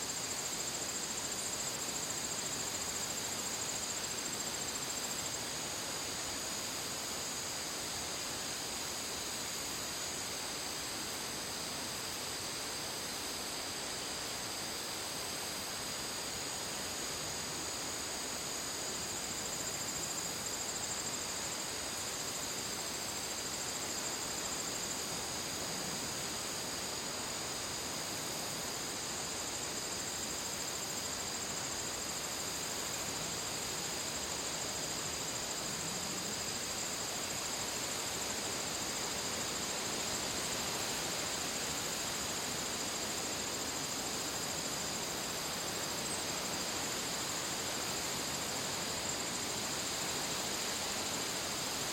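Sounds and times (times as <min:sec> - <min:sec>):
crickets chirping: 0:00.0 - 0:51.9
soft outdoor hiss: 0:00.0 - 0:51.9.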